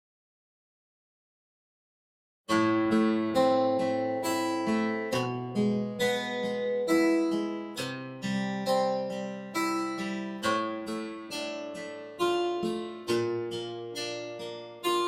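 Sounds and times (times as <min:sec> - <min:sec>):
plucked guitar-like notes: 0:02.5 - 0:15.0.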